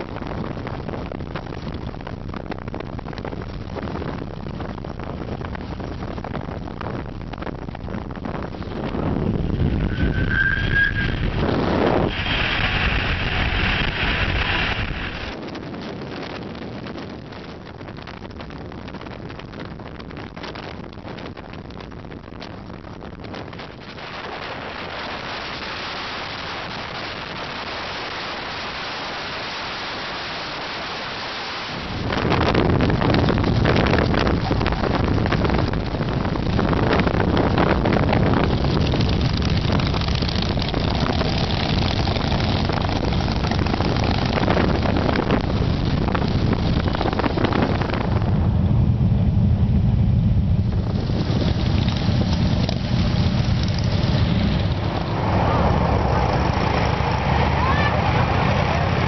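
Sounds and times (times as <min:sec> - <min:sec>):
motorcycle engine rumble: 0:00.0 - 0:59.0
wind and road noise: 0:00.0 - 0:59.0
wind rushing on microphone: 0:00.0 - 0:59.0.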